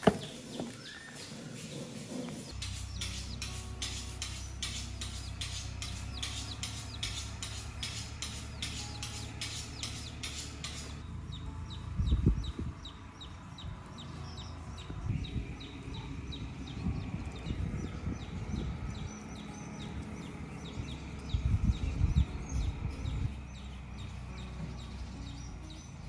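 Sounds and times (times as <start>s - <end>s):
low rumble of wind: 2.5s - 26.0s.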